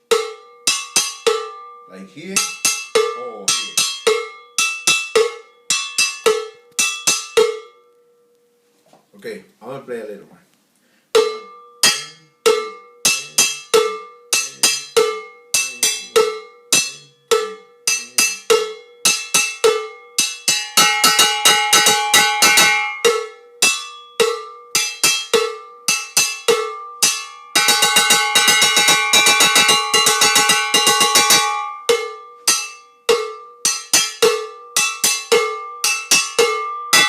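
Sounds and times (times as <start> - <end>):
cowbell struck with a stick: 0.0 - 7.9, 11.2 - 37.0.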